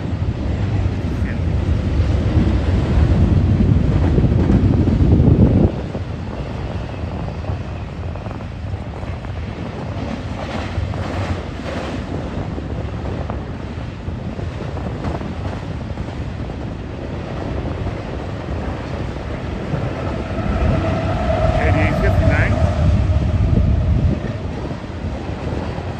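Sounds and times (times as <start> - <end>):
freight train rolling past: 0.0 - 25.9
wind buffeting microphone: 0.0 - 25.9.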